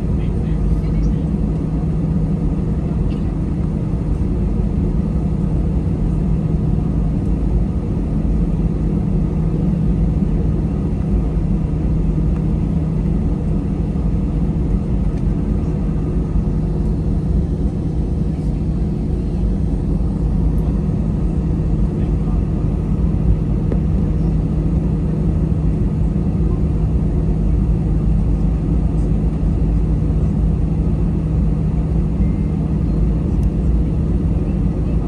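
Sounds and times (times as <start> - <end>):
jet engine hum in cabin: 0.0 - 35.0.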